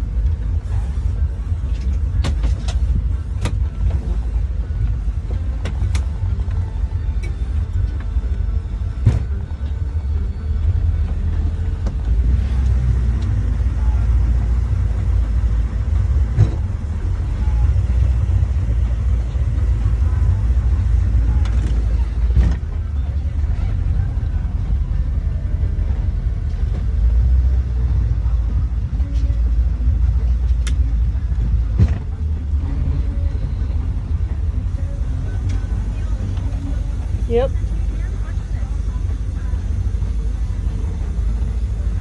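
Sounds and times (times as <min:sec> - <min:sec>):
motorboat engine rumbling: 0:00.0 - 0:42.0.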